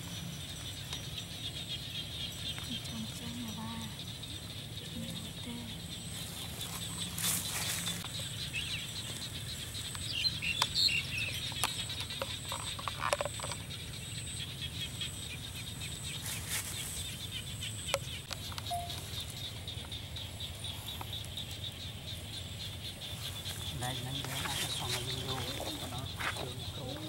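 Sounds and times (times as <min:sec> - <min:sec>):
bird chirps: 0:00.0 - 0:27.0
insects chirping: 0:00.0 - 0:27.0.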